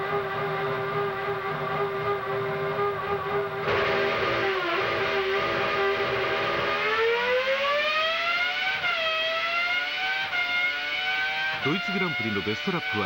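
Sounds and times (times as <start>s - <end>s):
racing engine revving: 0.0s - 13.0s.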